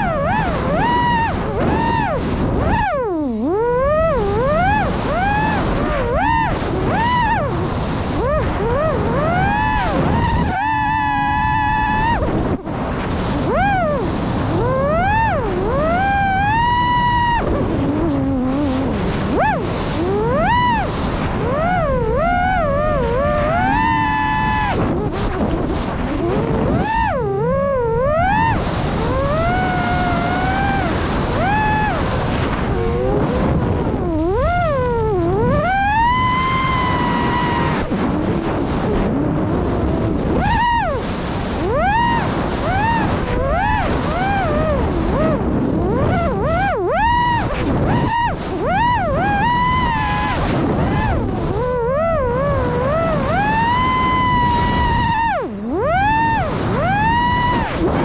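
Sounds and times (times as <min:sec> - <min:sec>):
electric motor and propeller whine: 0:00.0 - 0:58.0
wind rush: 0:00.0 - 0:58.0.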